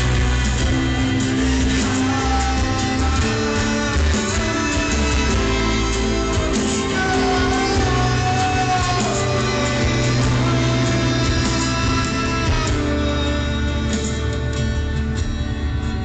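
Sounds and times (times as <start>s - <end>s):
live band instrumental: 0.0s - 16.0s.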